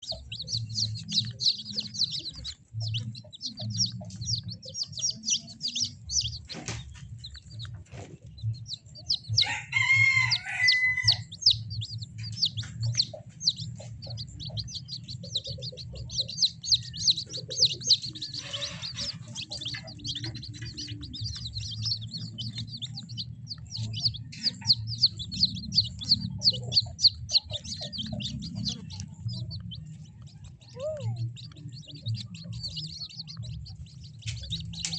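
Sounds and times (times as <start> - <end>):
chicks peeping and cheeping: 0.0 - 34.9.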